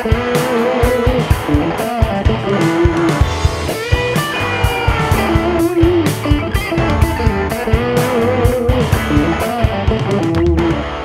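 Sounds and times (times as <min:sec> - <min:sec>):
electric guitar: 0:00.0 - 0:11.0
steady drum beat: 0:00.0 - 0:11.0.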